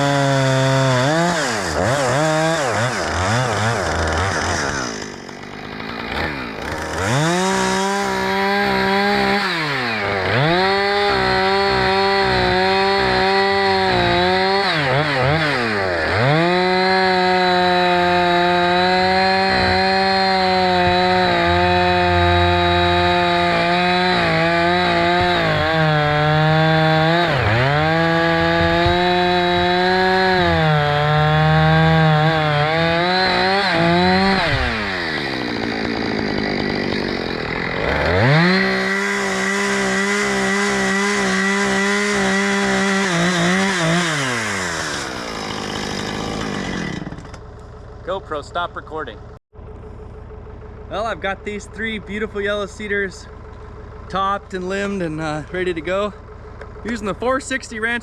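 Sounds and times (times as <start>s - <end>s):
chainsaw cutting wood: 0.0s - 48.2s, 49.6s - 58.0s.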